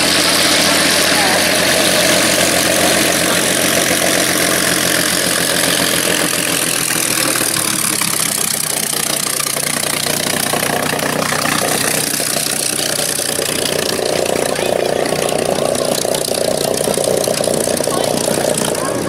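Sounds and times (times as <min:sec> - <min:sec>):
piston aircraft engines pulsing: 0:00.0 - 0:19.0.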